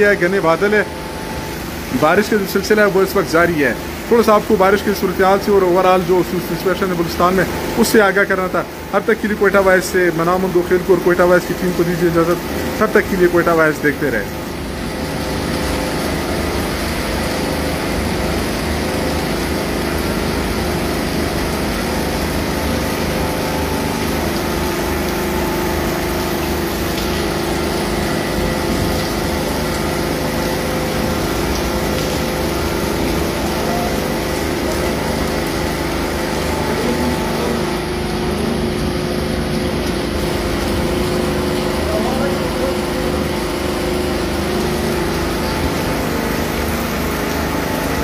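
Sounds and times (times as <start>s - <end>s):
heavy rain falling: 0.0s - 48.0s
machine hum: 0.0s - 48.0s.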